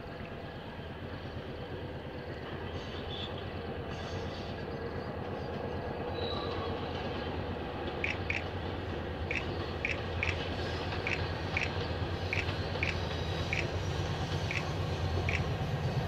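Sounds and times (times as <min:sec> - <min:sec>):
locomotive engine drone: 0:00.0 - 0:16.0.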